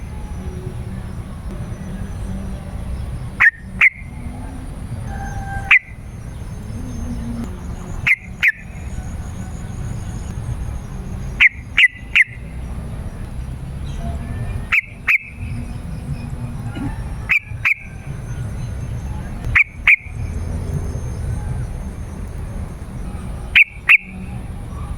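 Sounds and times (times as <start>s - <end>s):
bulbul calling: 0.0s - 24.9s
low background rumble: 0.0s - 24.9s.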